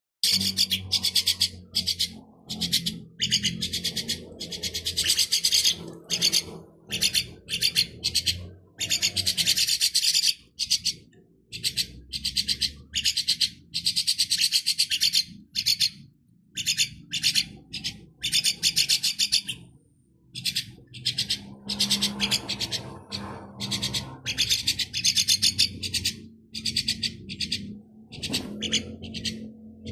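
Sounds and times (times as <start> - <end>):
baby birds raspy begging calls: 0.2 - 29.9.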